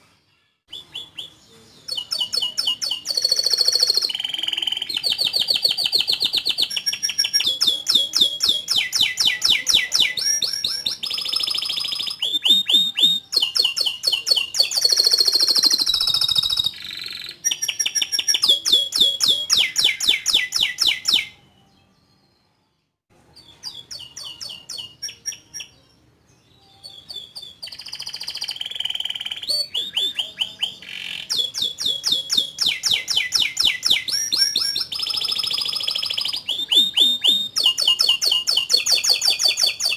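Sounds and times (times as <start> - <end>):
canary singing trills: 0.7 - 22.4, 23.3 - 39.9.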